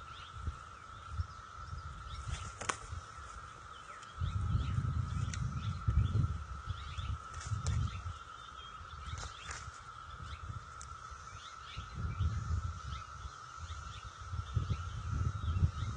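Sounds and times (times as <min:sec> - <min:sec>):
low gusty rumbles: 0:00.0 - 0:09.2, 0:10.0 - 0:15.9
bird chirps: 0:00.0 - 0:15.9.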